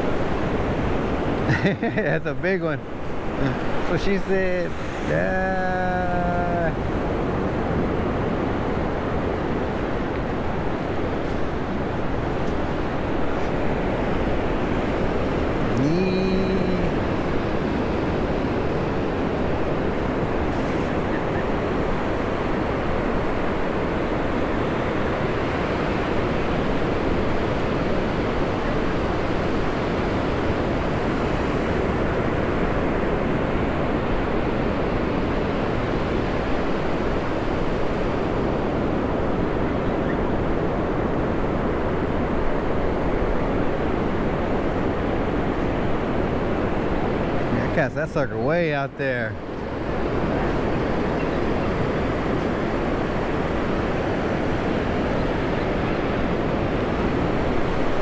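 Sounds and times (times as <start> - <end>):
surf washing up a beach: 0.0 - 58.0
wind rumbling on microphone: 0.0 - 58.0.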